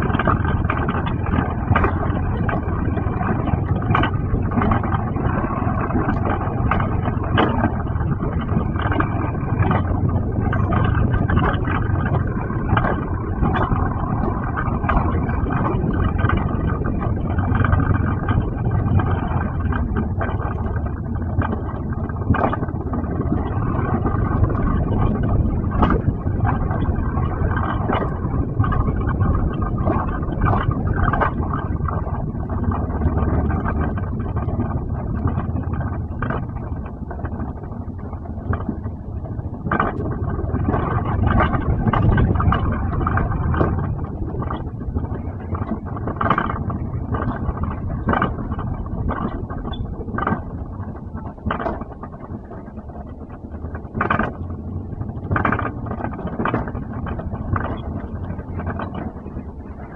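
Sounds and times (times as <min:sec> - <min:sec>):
sled wheels rumbling on rails: 0:00.0 - 0:59.9.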